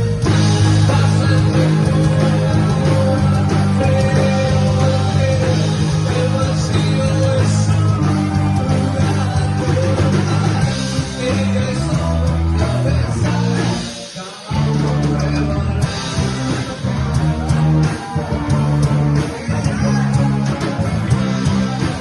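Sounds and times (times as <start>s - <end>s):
bass line: 0.0s - 22.0s
electric guitar: 0.0s - 22.0s
rock band playing: 0.0s - 22.0s.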